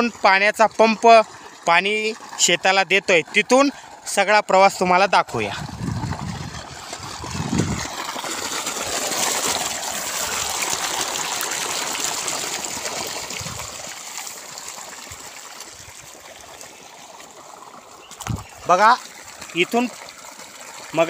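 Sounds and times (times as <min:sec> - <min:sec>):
water gushing from pipe: 0:00.0 - 0:21.0.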